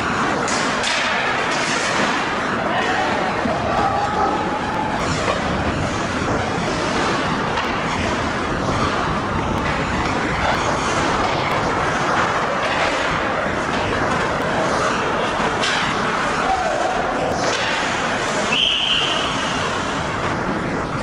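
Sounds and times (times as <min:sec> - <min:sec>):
ice rink crowd din: 0:00.0 - 0:21.0.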